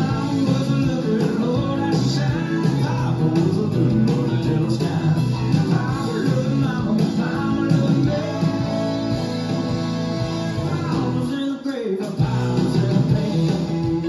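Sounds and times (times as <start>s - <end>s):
upbeat music with guitar and singing: 0.0s - 14.0s.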